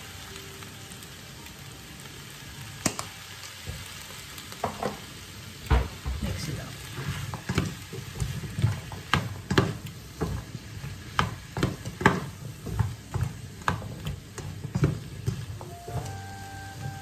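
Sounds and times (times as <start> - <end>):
vegetables sizzling: 0.0 - 17.0.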